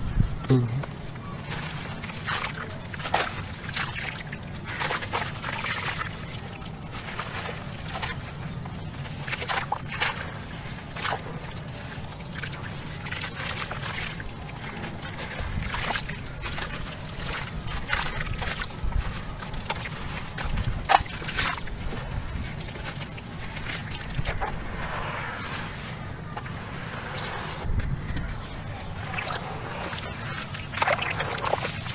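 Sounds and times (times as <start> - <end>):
crumbs sloshing into slurry: 0.9 - 31.9.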